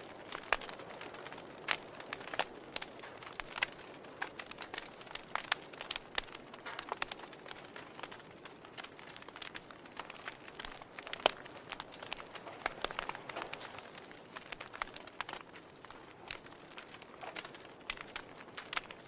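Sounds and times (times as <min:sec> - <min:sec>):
burning wood popping: 0:00.0 - 0:19.0
campfire crackling: 0:00.0 - 0:19.0.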